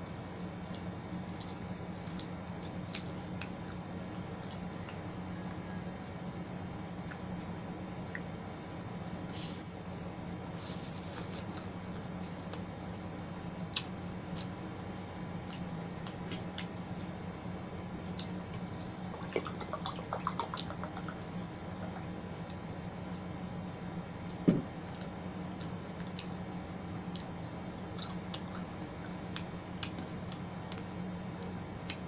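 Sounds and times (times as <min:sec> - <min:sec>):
steady low hum: 0:00.0 - 0:32.0
wet eating smacks and clicks: 0:00.6 - 0:09.2, 0:09.8 - 0:12.7, 0:13.6 - 0:32.0.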